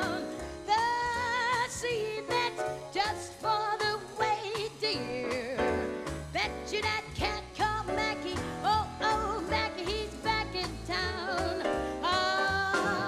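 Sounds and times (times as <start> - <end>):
jazz band with bass: 0.0 - 13.0.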